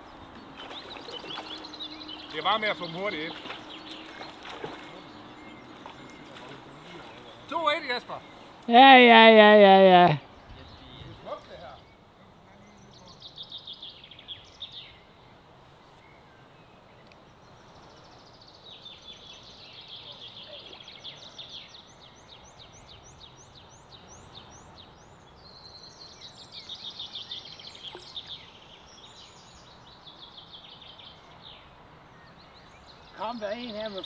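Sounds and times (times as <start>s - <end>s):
songbird singing trills: 0.0s - 8.8s, 10.1s - 34.0s.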